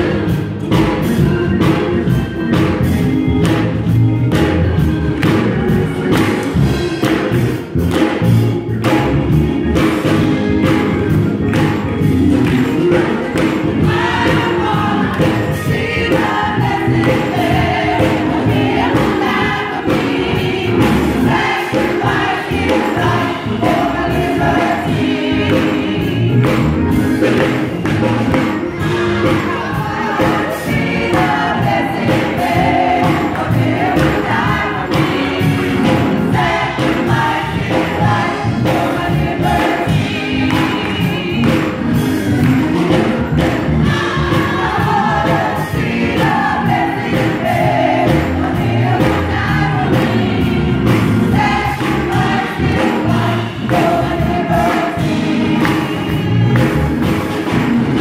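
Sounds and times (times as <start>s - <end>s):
steady beat: 0.0s - 58.0s
women's choir singing gospel: 0.0s - 58.0s.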